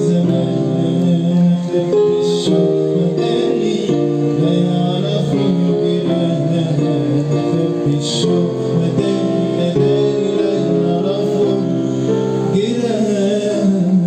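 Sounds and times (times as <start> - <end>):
electronic keyboard chords: 0.0 - 14.0.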